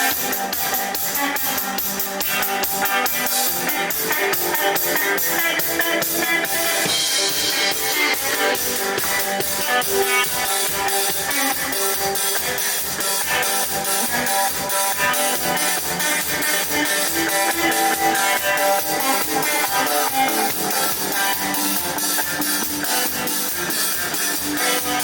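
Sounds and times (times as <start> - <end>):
drum kit fast beat: 0.0 - 25.0
electric guitar: 0.0 - 25.0
rock band playing live: 0.0 - 25.0.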